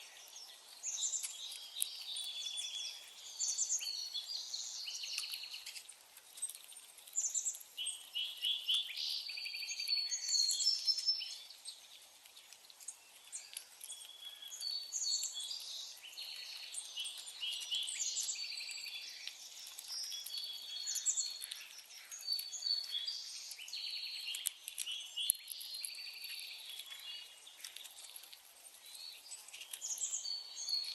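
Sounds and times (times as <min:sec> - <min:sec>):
songbirds chirping chorus: 0:00.0 - 0:30.9.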